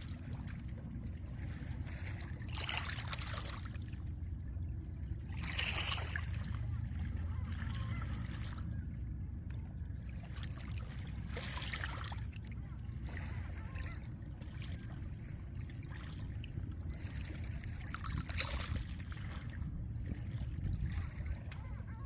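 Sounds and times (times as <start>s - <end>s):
wind and surf rumble: 0.0s - 22.0s.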